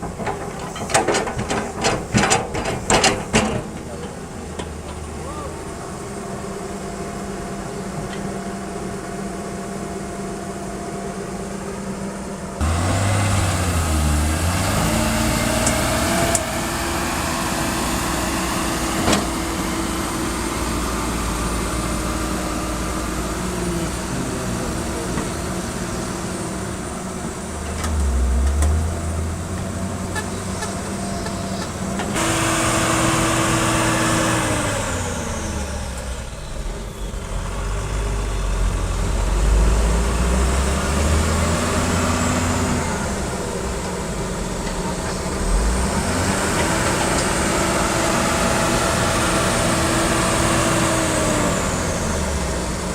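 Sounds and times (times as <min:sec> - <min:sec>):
excavator diesel engine working: 0:00.0 - 0:52.9.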